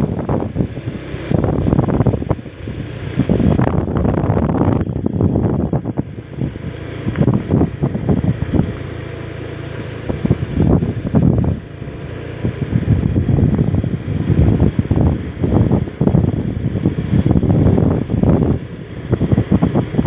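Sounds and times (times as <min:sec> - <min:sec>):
vehicle engine hum: 0:00.0 - 0:20.0
wind buffeting microphone: 0:00.0 - 0:20.0.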